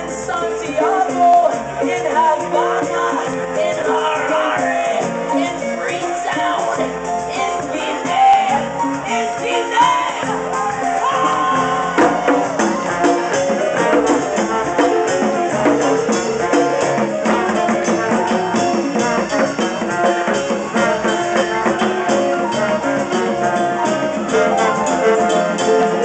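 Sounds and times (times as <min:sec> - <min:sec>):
drums: 0:00.0 - 0:26.0
live band playing: 0:00.0 - 0:26.0
rattling hand percussion: 0:00.0 - 0:26.0.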